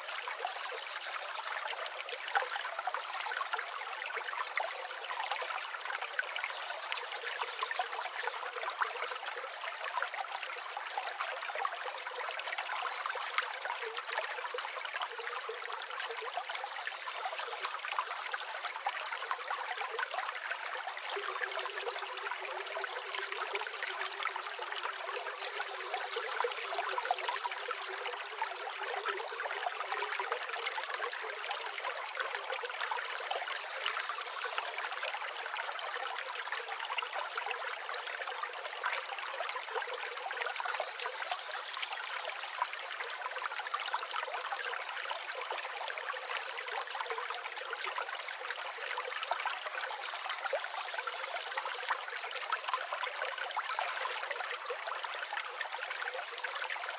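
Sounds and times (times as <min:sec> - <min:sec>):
stream water babbling: 0:00.0 - 0:56.9.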